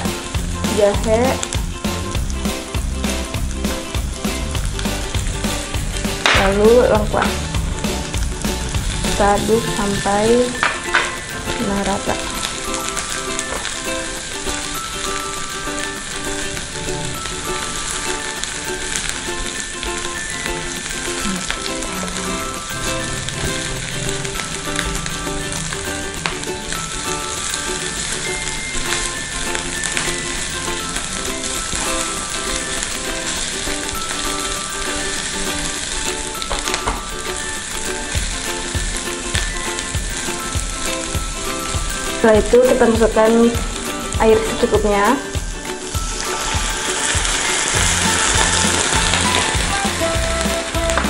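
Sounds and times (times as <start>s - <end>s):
light background music: 0.0s - 51.0s
spatula stir-frying in pan: 0.0s - 51.0s
vegetables sizzling in hot oil: 0.0s - 51.0s.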